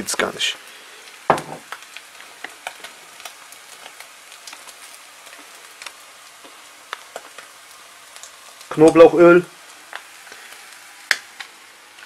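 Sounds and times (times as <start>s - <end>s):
bacon and eggs sizzling: 0.0s - 12.0s
crackles and pops: 0.0s - 12.0s.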